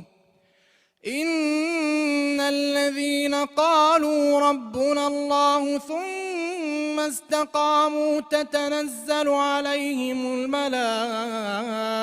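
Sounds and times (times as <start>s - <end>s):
man chanting: 0.0s - 0.3s, 1.0s - 12.0s.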